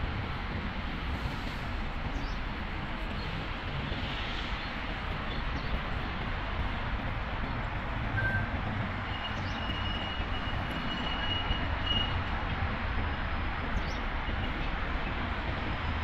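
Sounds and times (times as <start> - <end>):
city road traffic hum: 0.0 - 16.0.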